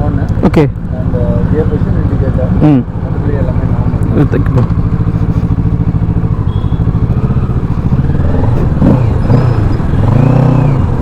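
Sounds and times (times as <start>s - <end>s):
motorcycle engine revving: 0.9s - 11.0s.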